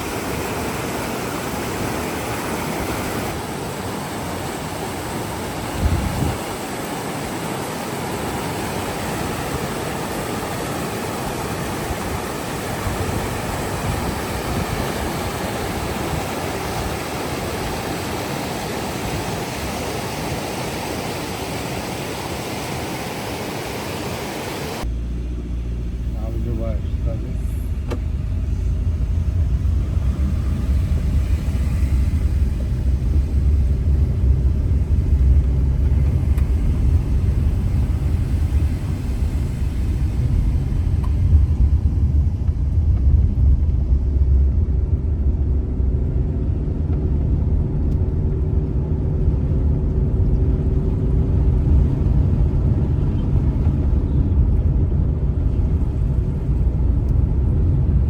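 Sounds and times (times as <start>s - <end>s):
car engine and tyres rumbling: 0.0s - 20.5s, 24.8s - 58.0s.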